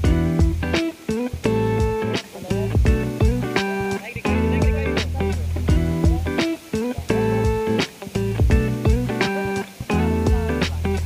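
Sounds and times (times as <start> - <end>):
guitar-led music with drum beat: 0.0 - 11.0.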